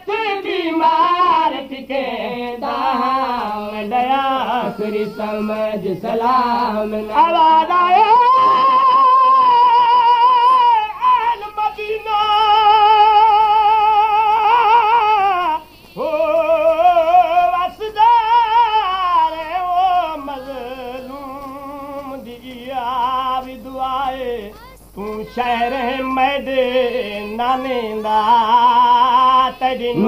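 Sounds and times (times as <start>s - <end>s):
person singing with vibrato: 0.0s - 30.0s.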